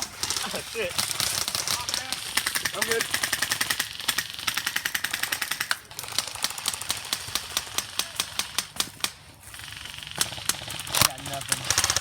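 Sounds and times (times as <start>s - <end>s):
airsoft gun firing bursts: 0.0s - 12.0s.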